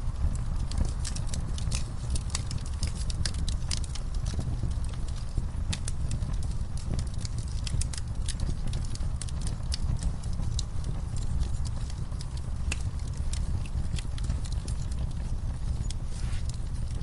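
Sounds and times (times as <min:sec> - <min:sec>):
burning wood popping and snapping: 0:00.0 - 0:17.0
low rumble of flames: 0:00.0 - 0:17.0.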